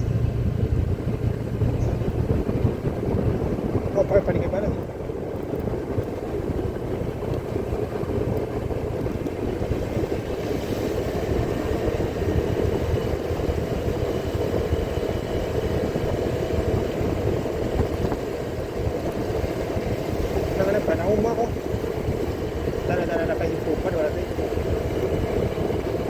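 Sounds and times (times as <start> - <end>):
road noise: 0.0 - 26.0
vehicle engine rumble: 0.0 - 26.0.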